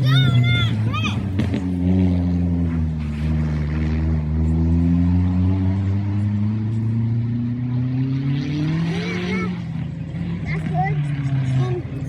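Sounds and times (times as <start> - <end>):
rally car engine running: 0.0 - 12.0.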